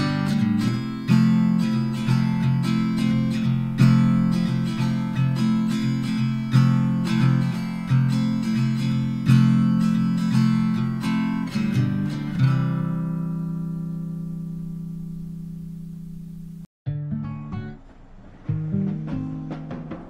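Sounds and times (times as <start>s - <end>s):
strummed acoustic guitar: 0.0s - 16.0s, 16.9s - 20.0s.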